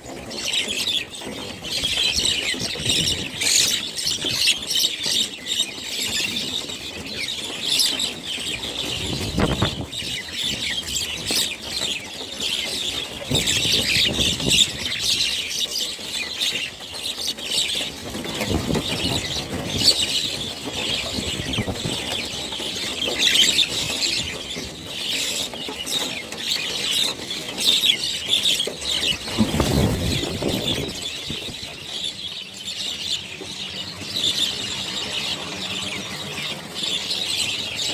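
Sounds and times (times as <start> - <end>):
flock of birds chattering: 0.0 - 37.9.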